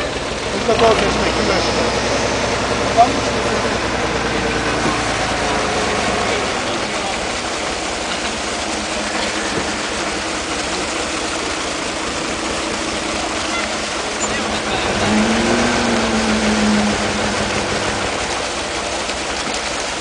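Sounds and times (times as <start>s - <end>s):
truck engine running: 0.0s - 20.0s
splashing water hiss: 0.1s - 20.0s.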